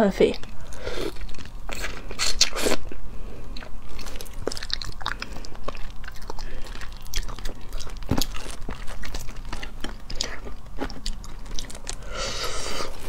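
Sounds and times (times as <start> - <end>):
wet chewing: 0.2 - 13.0.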